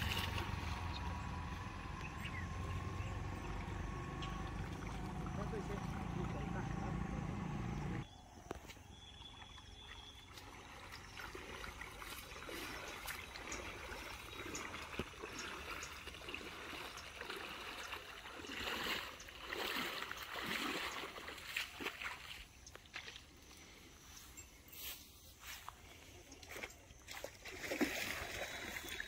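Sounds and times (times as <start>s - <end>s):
people wading through splashing water: 0.0s - 8.0s, 9.2s - 23.6s, 25.9s - 29.0s.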